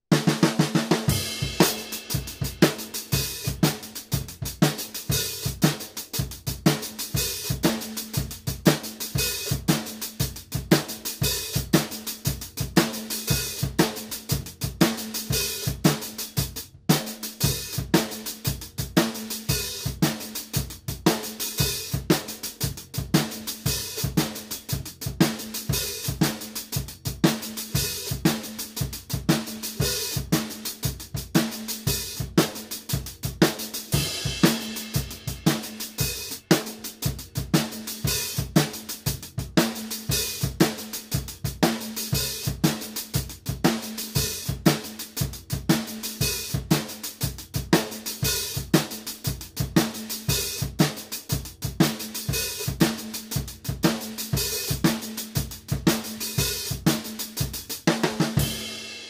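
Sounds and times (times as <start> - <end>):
drum kit groove: 0.0 - 59.0.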